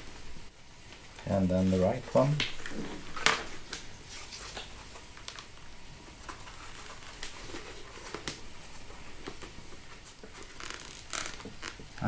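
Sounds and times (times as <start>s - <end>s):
soft rustling: 0.0s - 12.0s.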